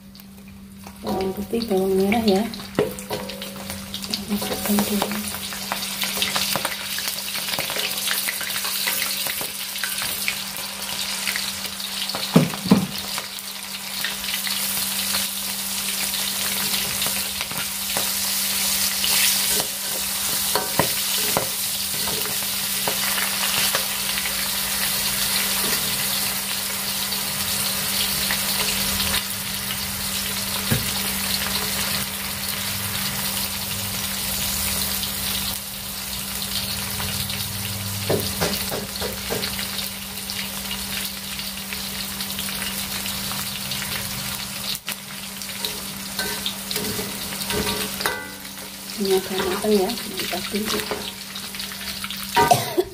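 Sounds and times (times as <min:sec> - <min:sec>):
food sizzling in hot oil: 0:00.0 - 0:52.9.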